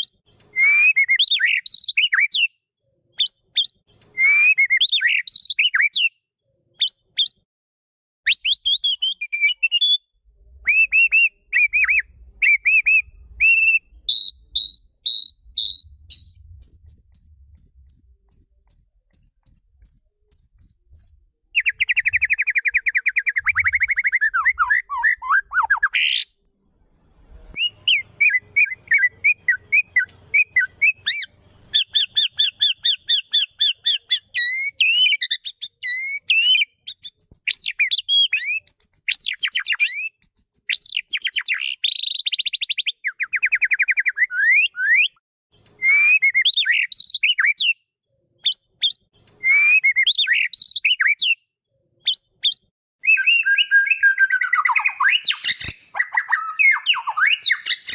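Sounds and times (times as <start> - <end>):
songbird singing trills and whistles: 0.0 - 6.2, 6.8 - 7.4, 8.3 - 57.9.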